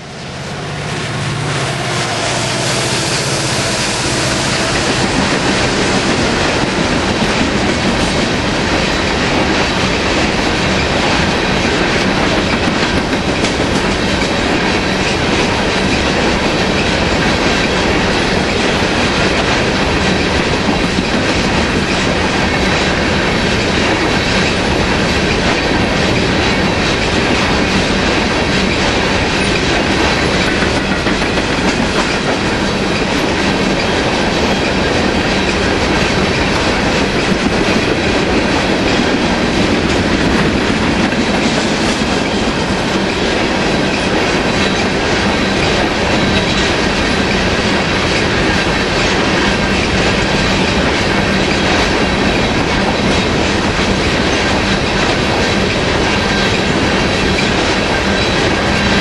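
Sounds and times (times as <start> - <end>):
freight train wheels clattering on rail: 0.0 - 59.0.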